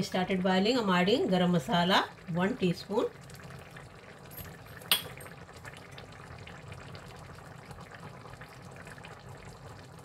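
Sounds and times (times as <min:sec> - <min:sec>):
curry bubbling in a pan: 0:00.0 - 0:10.0.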